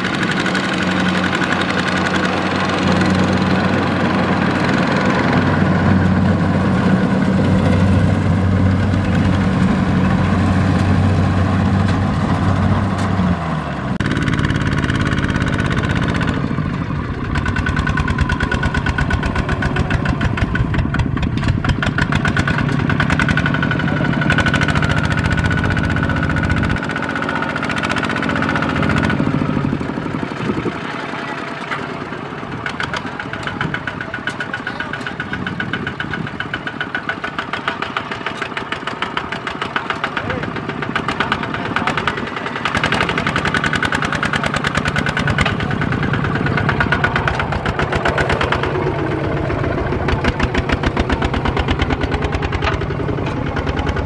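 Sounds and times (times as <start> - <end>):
diesel engines chugging: 0.0 - 54.0.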